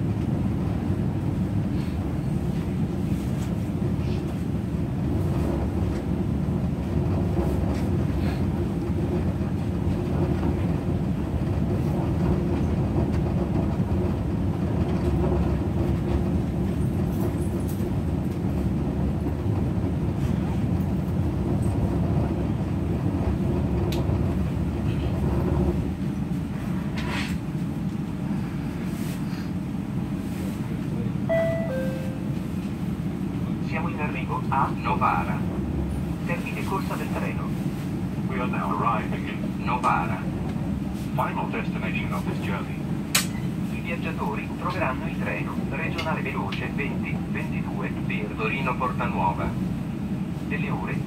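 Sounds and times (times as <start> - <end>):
train rumbling on rails: 0.0 - 51.0.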